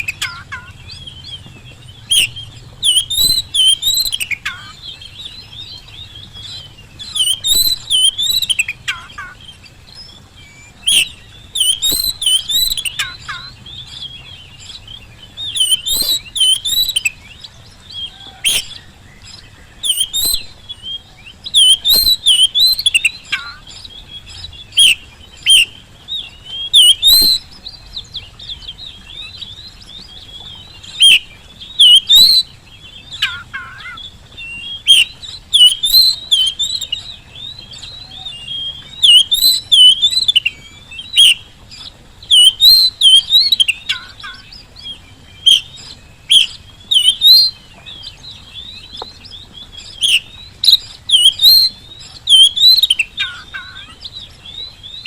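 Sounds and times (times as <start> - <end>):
songbird whistling: 0.0 - 55.0.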